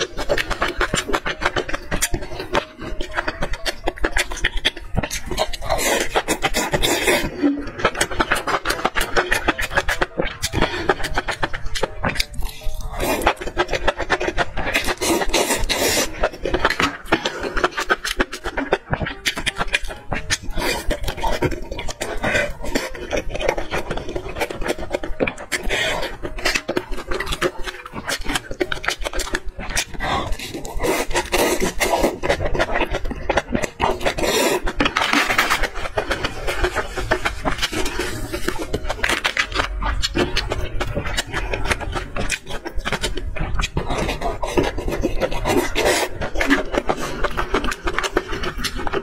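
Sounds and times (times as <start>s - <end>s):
wet chewing: 0.0s - 49.0s
slurping sauce: 0.1s - 49.0s.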